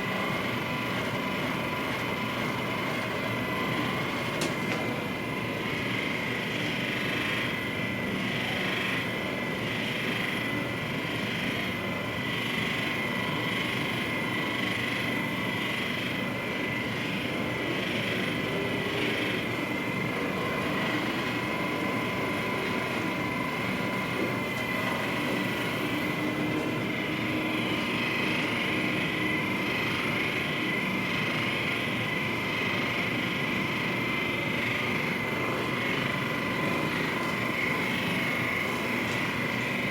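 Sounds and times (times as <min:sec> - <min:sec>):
small electric motor whining: 0:00.0 - 0:39.9.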